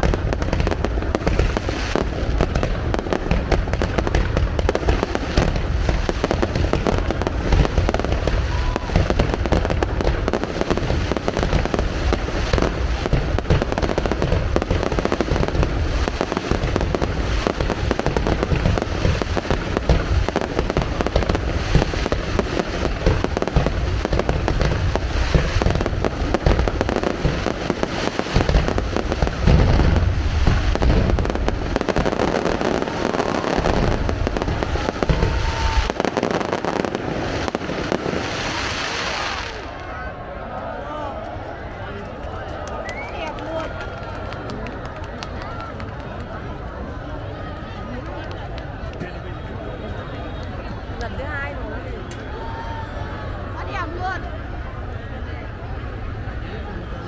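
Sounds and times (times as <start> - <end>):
fireworks bangs and crackles: 0.0 - 40.2, 41.3 - 57.0.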